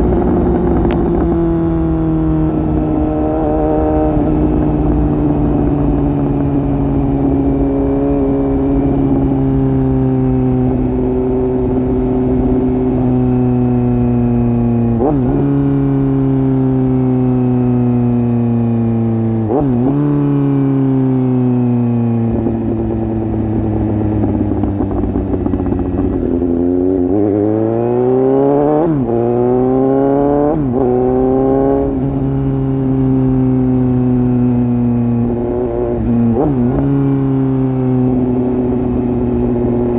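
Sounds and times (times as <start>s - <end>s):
gear changes: 0.0s - 16.3s, 22.2s - 39.9s
motorcycle engine through open exhaust: 0.0s - 39.9s.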